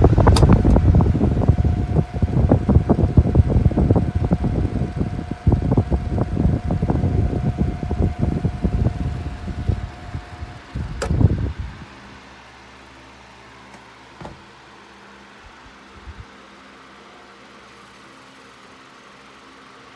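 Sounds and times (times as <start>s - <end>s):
fan airflow buffeting microphone: 0.0s - 19.7s
thin steady whine: 0.0s - 19.9s.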